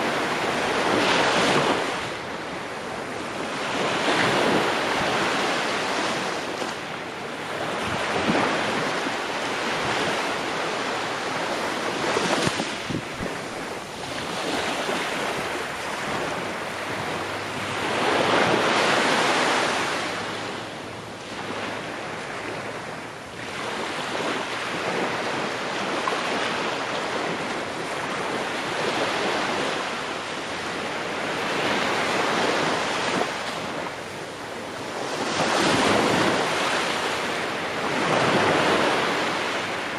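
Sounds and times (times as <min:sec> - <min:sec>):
ocean waves breaking on shore: 0:00.0 - 0:39.9
wind: 0:00.0 - 0:39.9.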